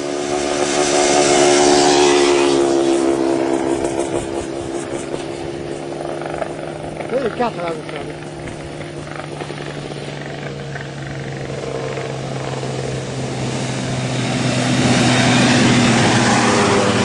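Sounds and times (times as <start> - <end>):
motorcycle engines running hard: 0.0 - 17.0.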